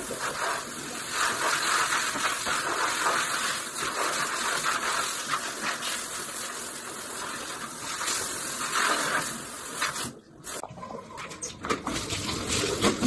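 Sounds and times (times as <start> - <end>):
bidet sprayer spraying water: 0.0 - 10.6.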